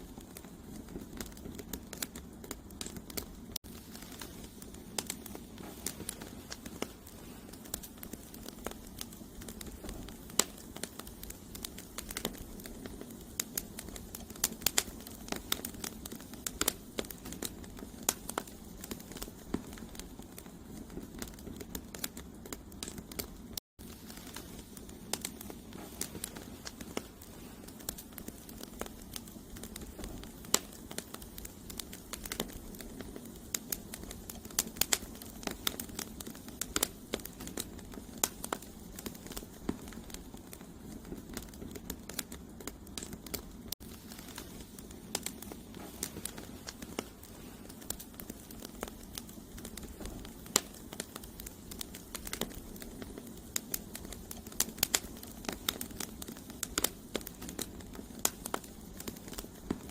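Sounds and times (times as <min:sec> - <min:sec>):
logs crackling and popping: 0:00.0 - 0:59.9
low rush of fire: 0:00.0 - 0:59.9.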